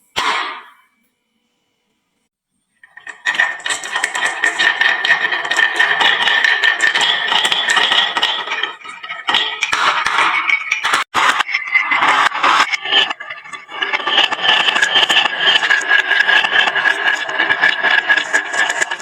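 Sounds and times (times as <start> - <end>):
marbles clattering down a wooden run: 3.0 - 19.0.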